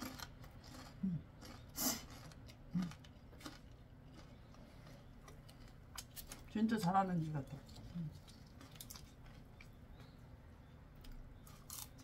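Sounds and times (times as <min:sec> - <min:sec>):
chewing crispy fried chicken: 0:00.0 - 0:12.0.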